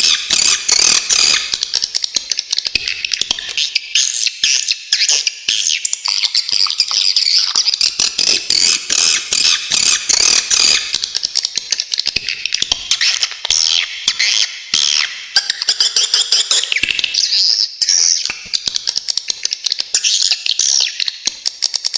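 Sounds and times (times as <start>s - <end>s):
swiftlets chirping and clicking: 0.0s - 21.9s.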